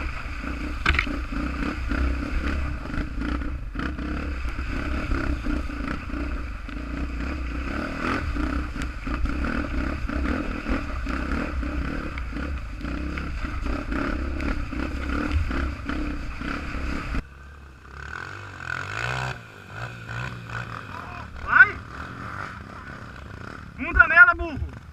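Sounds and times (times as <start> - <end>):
motorcycle engine under load: 0.0 - 24.9.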